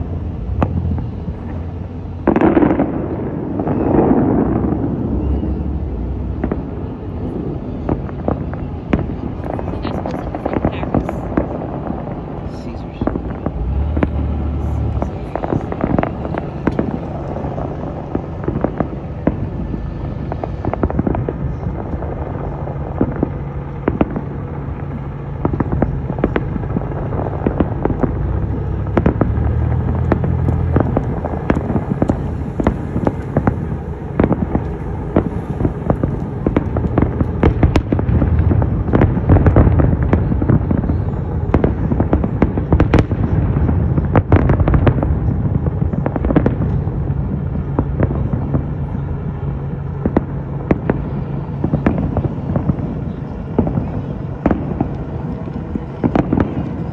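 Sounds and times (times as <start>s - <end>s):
distant fireworks booms: 0.0s - 56.9s
low rumble: 0.0s - 56.9s.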